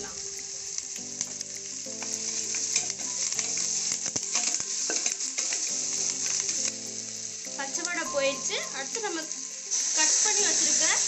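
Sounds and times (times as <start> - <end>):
vegetables sizzling in hot ghee: 0.0 - 11.0.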